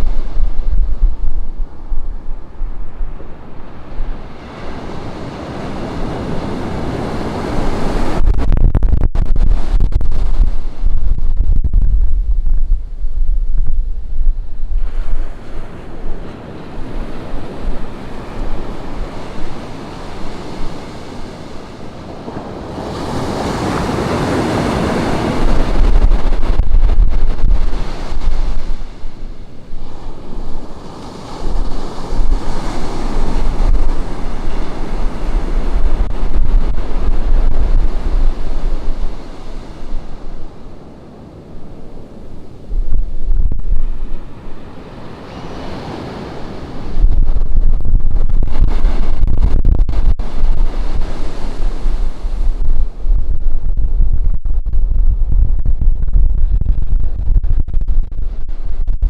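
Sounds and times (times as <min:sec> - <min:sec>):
ocean surf breaking: 0:00.0 - 0:57.3
wind buffeting microphone: 0:00.0 - 0:59.0.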